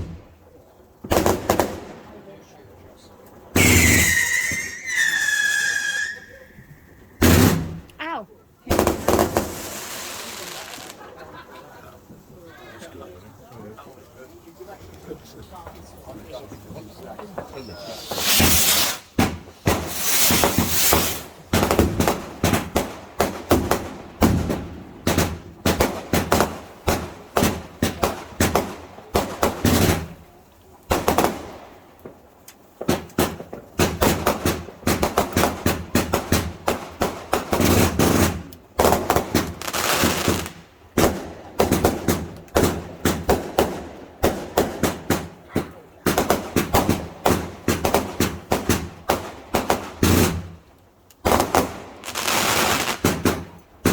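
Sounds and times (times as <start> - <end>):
fireworks cracking: 0.0 - 53.9.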